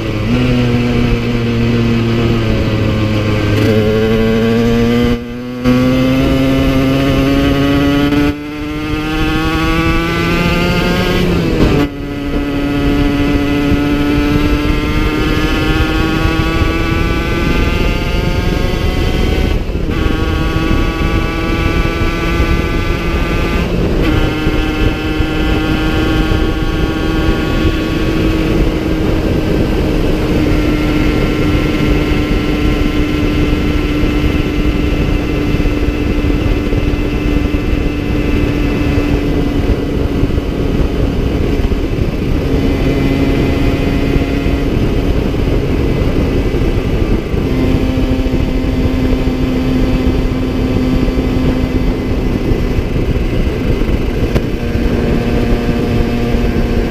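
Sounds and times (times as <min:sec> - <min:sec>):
two-stroke engine running: 0:00.0 - 0:56.9
wind rush on microphone: 0:00.0 - 0:56.9.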